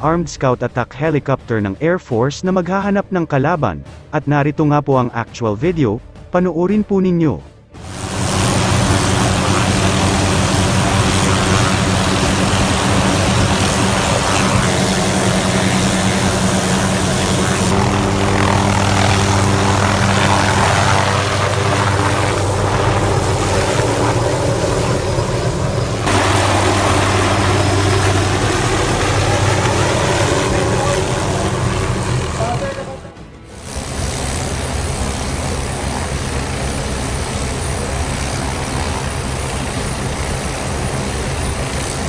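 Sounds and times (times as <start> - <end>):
helicopter rotor noise: 7.8 - 42.0
helicopter turbine whine: 7.8 - 42.0.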